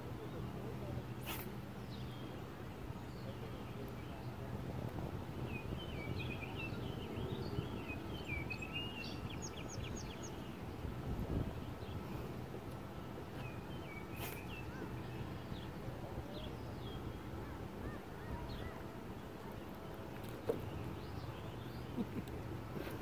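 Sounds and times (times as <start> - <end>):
small birds chirping: 0.2 - 4.4, 5.4 - 23.0.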